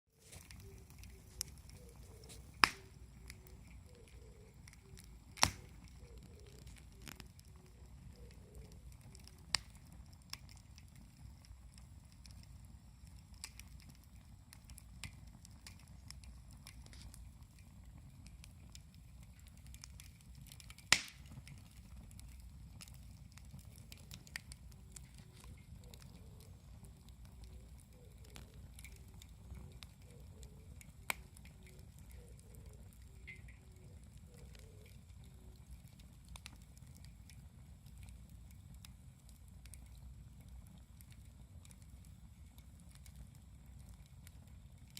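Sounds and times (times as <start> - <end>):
campfire burning: 0.1 - 44.9
fire crackling: 0.1 - 44.9
sharp pops of burning wood: 0.2 - 44.9.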